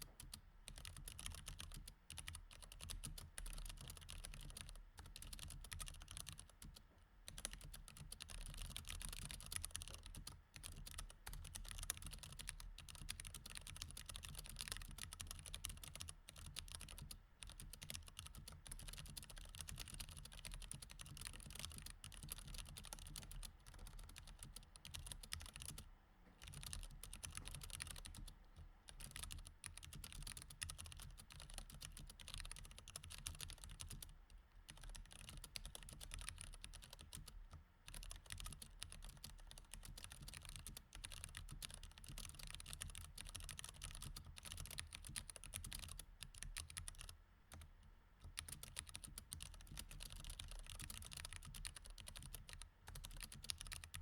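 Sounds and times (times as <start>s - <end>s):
mechanical keyboard typing: 0.2s - 25.8s, 26.4s - 28.3s, 28.9s - 54.0s.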